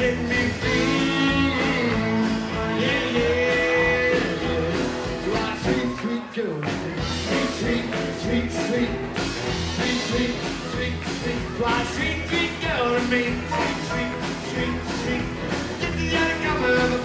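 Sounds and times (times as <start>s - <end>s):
drum kit: 0.0s - 17.0s
electric guitar: 0.0s - 17.0s
upright bass: 0.0s - 17.0s.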